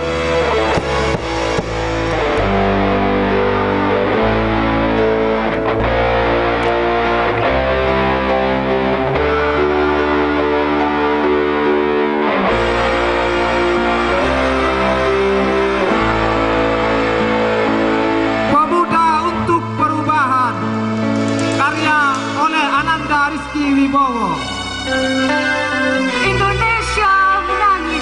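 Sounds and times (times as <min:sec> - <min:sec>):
bass: 0:00.0 - 0:28.0
distorted electric guitar: 0:00.0 - 0:28.0.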